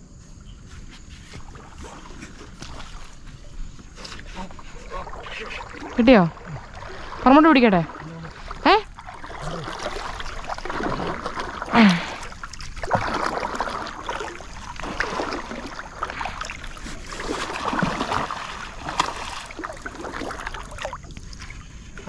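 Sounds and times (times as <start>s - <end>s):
water splashing around canoe: 0.4s - 22.0s.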